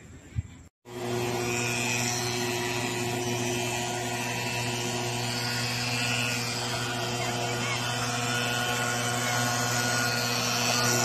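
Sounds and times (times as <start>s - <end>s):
drone propellers humming: 0.9s - 11.0s.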